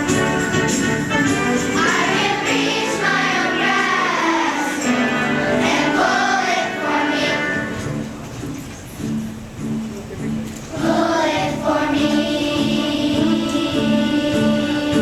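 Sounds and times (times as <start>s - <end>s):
choir singing: 0.0s - 7.8s, 10.7s - 15.0s.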